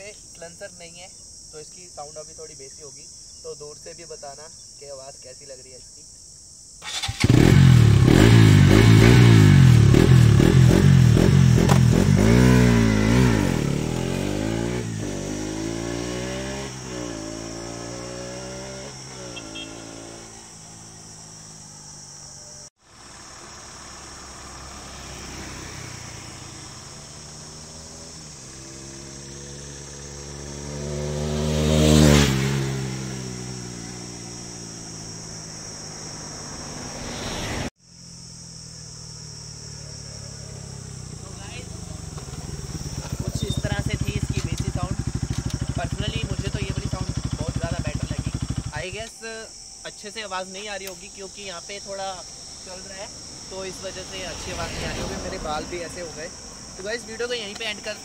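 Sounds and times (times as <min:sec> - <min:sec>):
motorcycle engine revving: 0:06.8 - 0:49.4, 0:50.1 - 0:58.0
motorcycle passing: 0:06.8 - 0:58.0.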